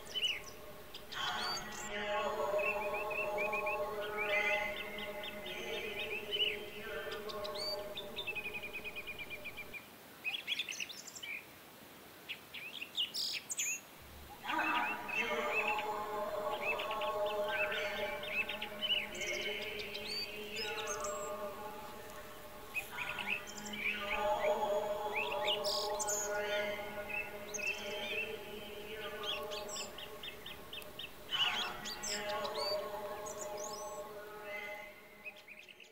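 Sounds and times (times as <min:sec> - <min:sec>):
sustained chord of held tones: 0:00.0 - 0:09.7, 0:14.0 - 0:35.9
small birds chirping and trilling: 0:00.0 - 0:11.5, 0:12.3 - 0:35.9.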